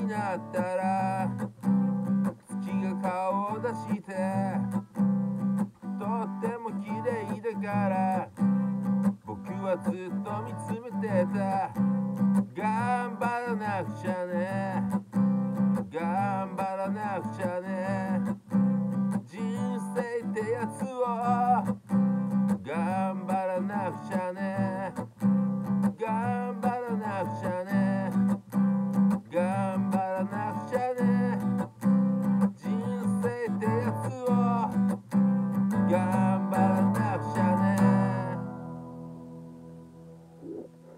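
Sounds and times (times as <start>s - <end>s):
man singing: 0.0s - 5.1s, 5.8s - 38.8s
strummed acoustic guitar: 0.0s - 40.9s.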